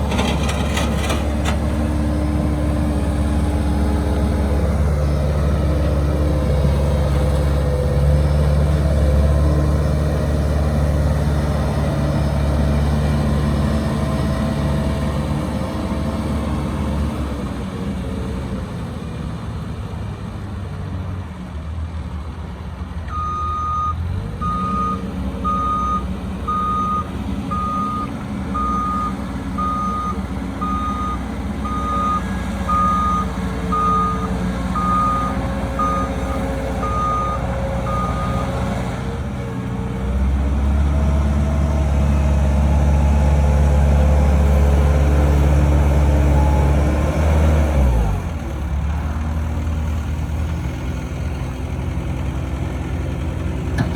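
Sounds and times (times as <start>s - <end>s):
skid steer engine running: 0.0s - 20.5s, 23.1s - 53.9s.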